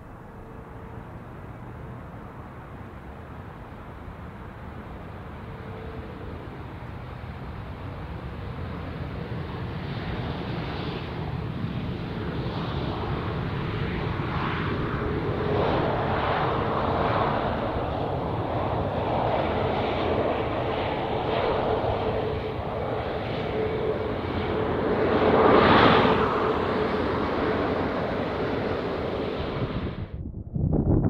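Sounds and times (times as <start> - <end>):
jet engine rumble: 0.0 - 31.0.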